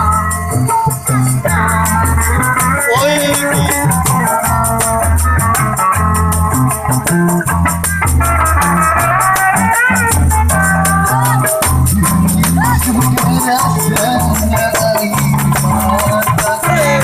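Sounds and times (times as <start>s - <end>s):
bass line: 0.0s - 17.0s
fast percussion beat: 0.0s - 17.0s
plucked string melody: 0.0s - 17.0s.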